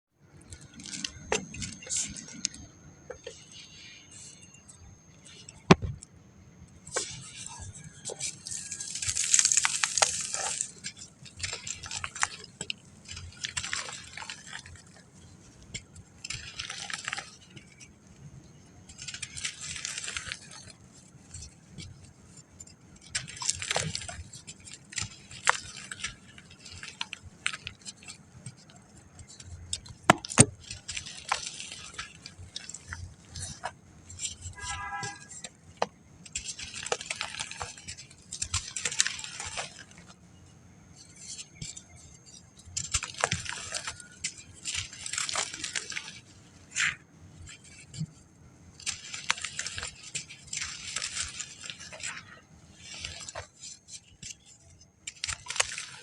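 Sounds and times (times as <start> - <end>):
dry sand crunching: 6.8 - 56.0.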